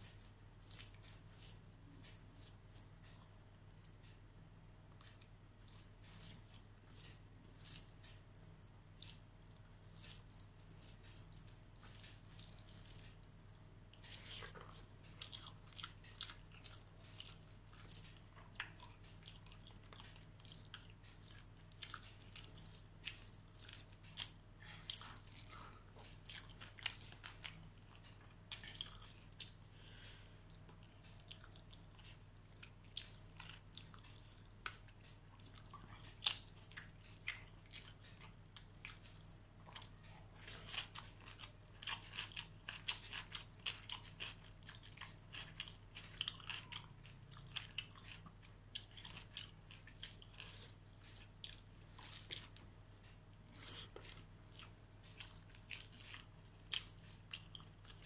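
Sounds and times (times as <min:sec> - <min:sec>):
person chewing with wet smacks: 0:00.0 - 0:58.0.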